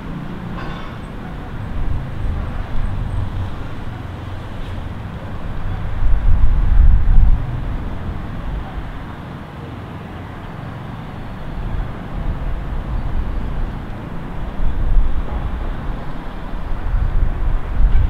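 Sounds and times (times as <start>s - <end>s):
road traffic rumble: 0.0s - 18.0s
vehicle passing: 0.0s - 18.0s.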